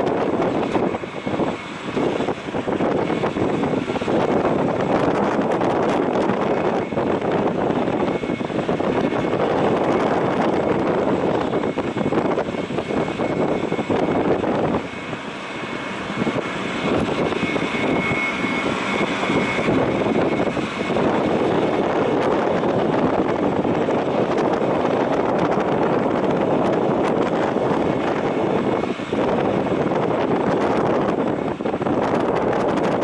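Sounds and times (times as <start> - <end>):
distant aircraft engine rush: 0.0 - 33.0.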